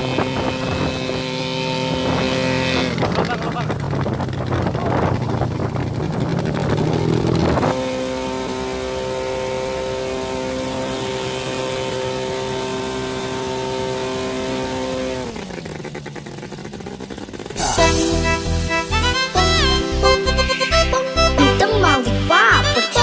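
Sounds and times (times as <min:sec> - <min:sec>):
light aircraft engine running: 0:00.0 - 0:23.0.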